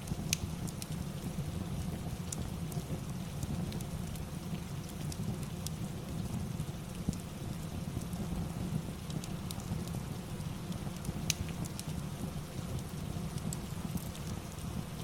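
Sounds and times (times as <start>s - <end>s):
fire crackling and popping: 0.0s - 15.0s
steady rain: 0.0s - 15.0s.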